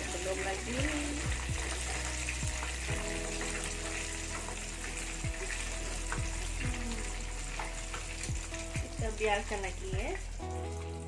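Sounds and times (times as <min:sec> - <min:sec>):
background music: 0:00.0 - 0:11.0
fish deep-frying in oil: 0:00.0 - 0:11.0.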